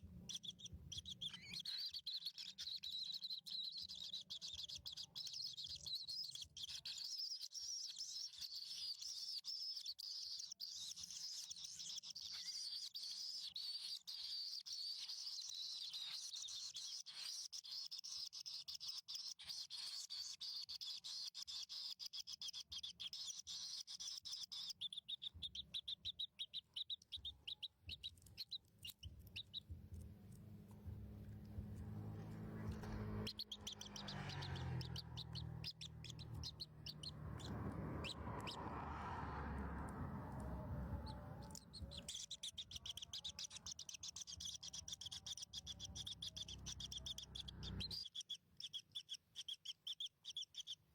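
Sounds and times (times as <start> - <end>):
baby birds chirping: 0.0 - 50.9.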